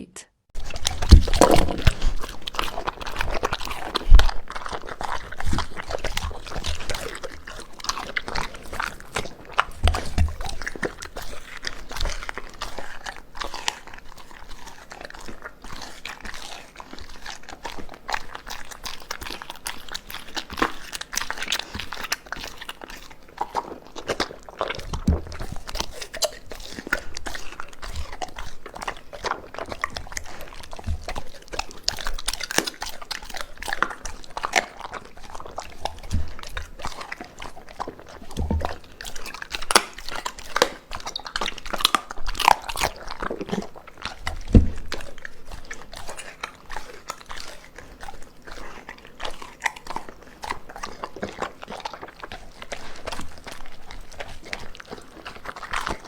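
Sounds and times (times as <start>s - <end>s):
dog chewing and crunching: 0.5s - 56.0s.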